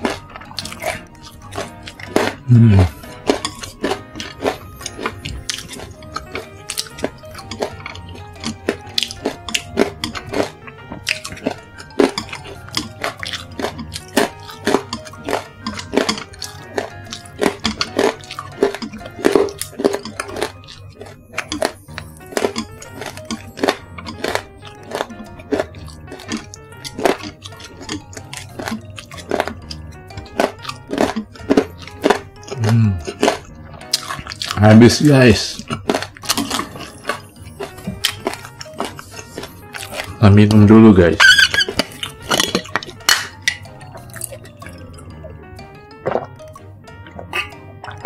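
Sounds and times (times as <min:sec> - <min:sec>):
crunchy chewing: 0:00.0 - 0:48.0
soft background music: 0:00.0 - 0:48.0.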